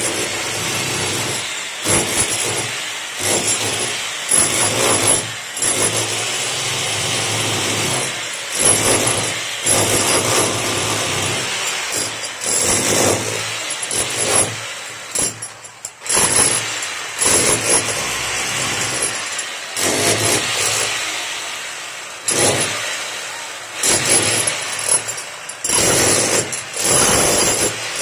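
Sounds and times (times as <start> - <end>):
electric disc cutter grinding brick: 0.0 - 28.0.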